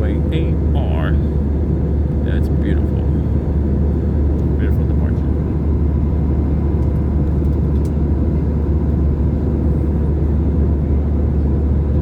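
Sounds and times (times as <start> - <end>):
airplane cabin engine roar: 0.0 - 12.0.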